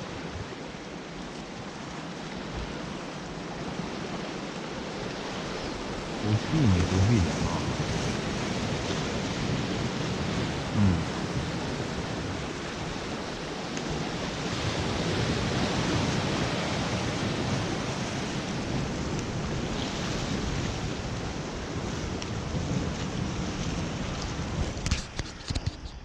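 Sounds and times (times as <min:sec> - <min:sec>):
surf washing over rocks: 0:00.0 - 0:25.0.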